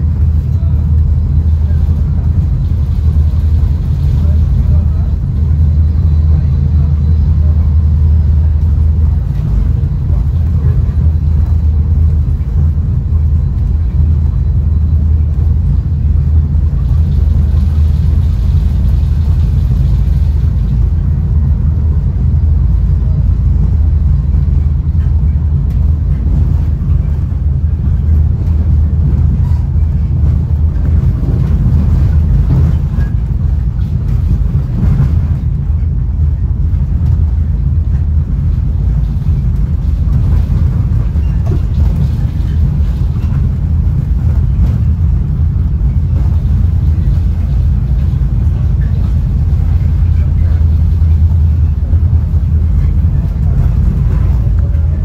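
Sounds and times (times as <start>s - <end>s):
train car rumbling on rails: 0.0s - 55.0s.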